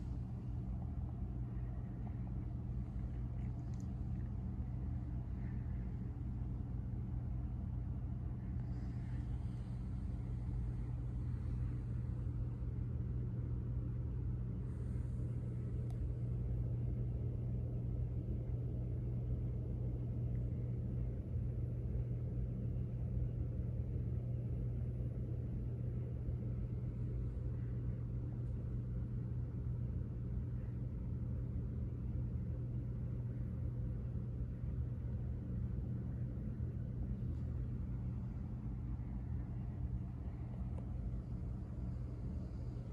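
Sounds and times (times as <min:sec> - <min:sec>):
low background hum: 0:00.0 - 0:42.9
low rumble: 0:00.0 - 0:42.9.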